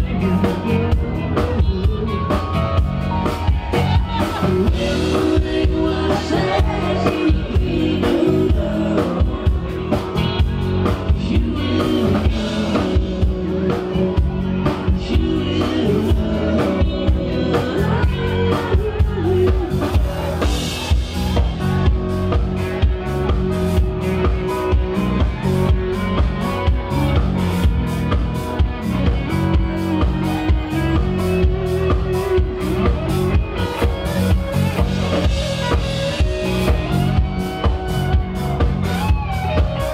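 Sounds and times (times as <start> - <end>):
drum kit beat: 0.0 - 39.9
electric bass: 0.0 - 39.9
electric guitar: 0.0 - 39.9.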